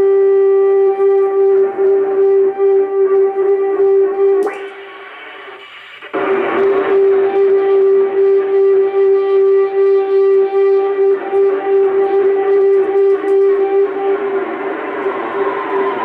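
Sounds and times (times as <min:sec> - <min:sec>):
electronic noise music drone: 0:00.0 - 0:16.0
distorted haze: 0:01.0 - 0:16.0.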